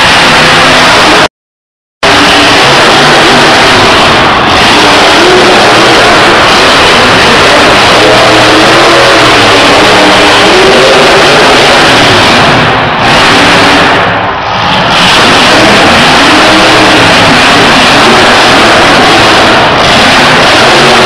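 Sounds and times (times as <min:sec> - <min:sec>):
monster truck engine revving: 0:00.0 - 0:01.3, 0:02.0 - 0:21.0.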